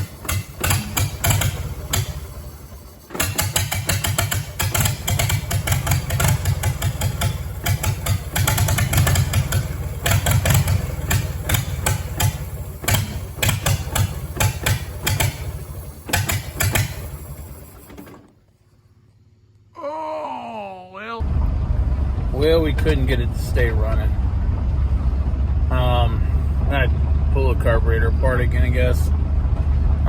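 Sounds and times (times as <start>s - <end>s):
tractor engine running roughly: 0.0s - 19.2s, 21.2s - 30.0s.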